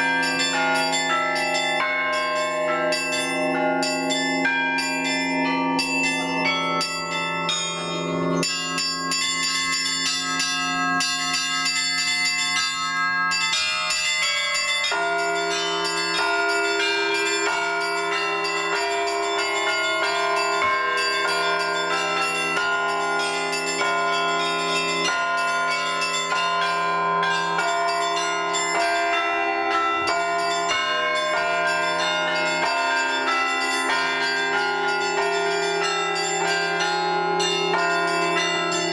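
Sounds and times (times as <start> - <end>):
large bells ringing: 0.0 - 38.9.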